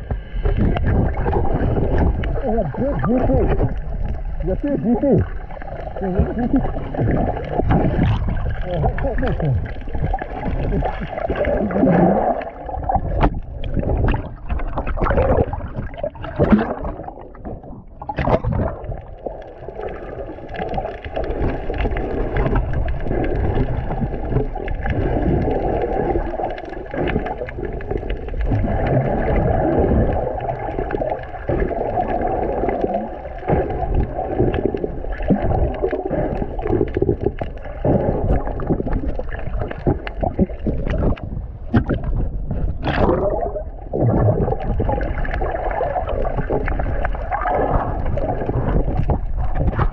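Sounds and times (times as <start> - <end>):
muffled underwater sloshing: 0.0 - 49.9
sharp clicks and splashes: 0.0 - 49.9.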